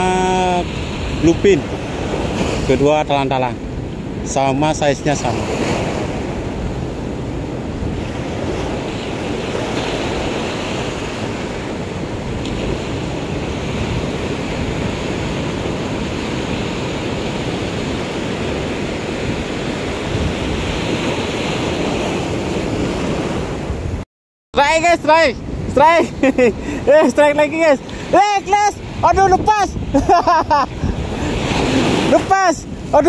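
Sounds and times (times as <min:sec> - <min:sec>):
ocean surf breaking: 0:00.0 - 0:24.0, 0:24.6 - 0:33.0
wind buffeting microphone: 0:05.2 - 0:24.0, 0:24.8 - 0:33.0.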